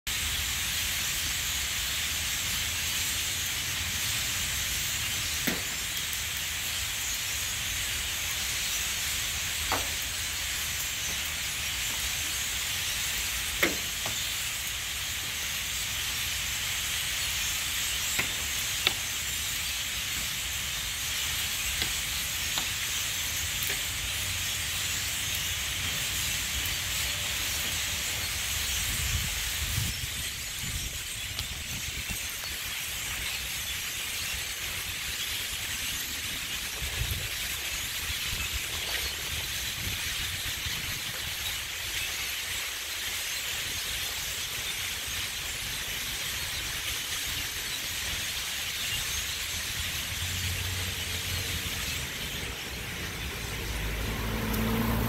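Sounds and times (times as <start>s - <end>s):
flock of birds chattering: 0.1s - 55.0s
sharp bird calls: 2.5s - 55.0s.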